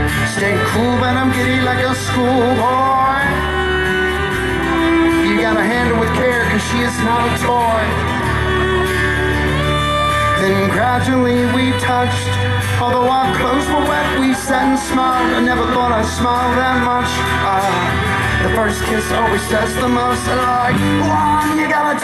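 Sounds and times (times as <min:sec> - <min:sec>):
live rock band playing: 0:00.0 - 0:22.0
man singing: 0:00.0 - 0:22.0.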